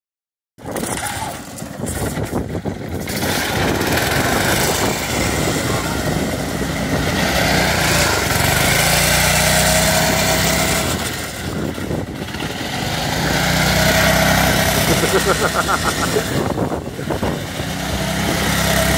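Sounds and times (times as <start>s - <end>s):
small engine revving: 0.6s - 18.9s.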